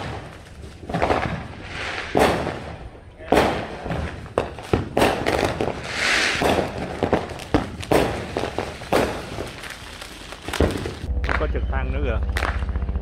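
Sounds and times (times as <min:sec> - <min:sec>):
fireworks hissing crackle: 0:00.0 - 0:11.1
fireworks bangs: 0:00.0 - 0:11.5.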